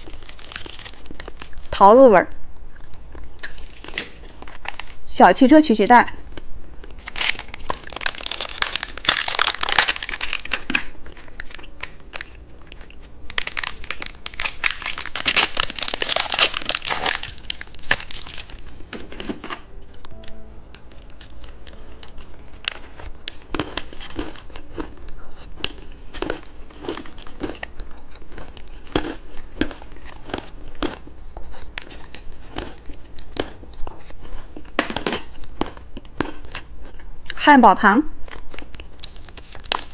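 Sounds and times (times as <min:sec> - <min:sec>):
plastic packaging crinkling: 0:00.0 - 0:01.8, 0:02.9 - 0:05.0, 0:06.3 - 0:20.1, 0:20.8 - 0:35.8, 0:38.2 - 0:39.9.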